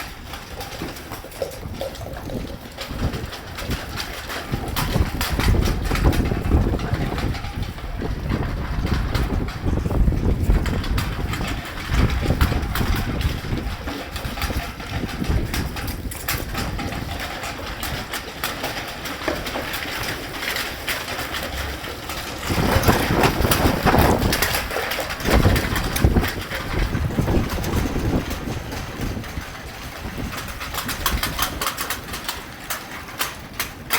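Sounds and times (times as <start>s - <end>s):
gusty wind buffeting microphone: 0.0s - 33.9s.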